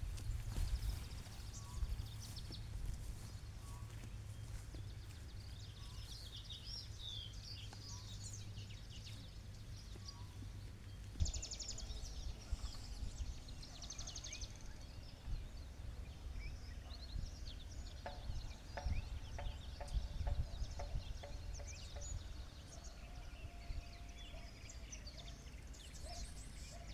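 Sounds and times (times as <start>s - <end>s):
low rumble of wind: 0.0s - 26.9s
small birds chirping: 0.0s - 26.9s.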